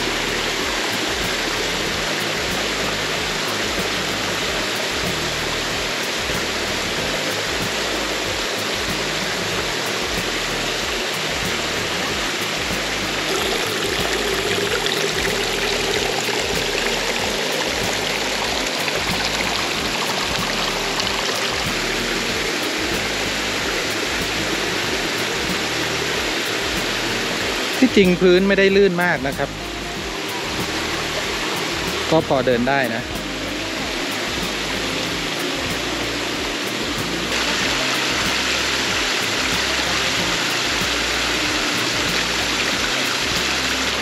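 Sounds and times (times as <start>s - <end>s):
background music: 0.0s - 44.0s
water rushing over rocks: 0.0s - 44.0s.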